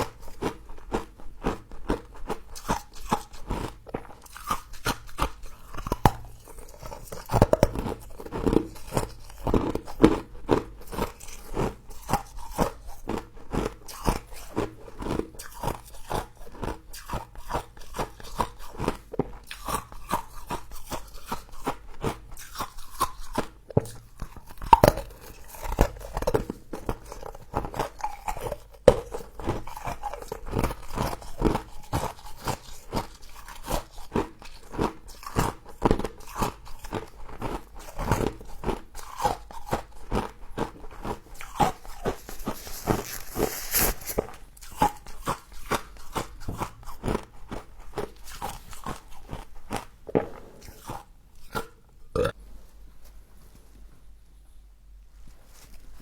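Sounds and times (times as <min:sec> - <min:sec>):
crunching and chewing frost: 0:00.0 - 0:52.4.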